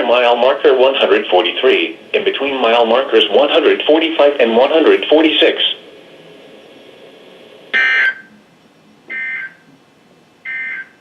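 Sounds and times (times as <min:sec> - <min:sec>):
faint radio hiss: 0:00.0 - 0:10.5.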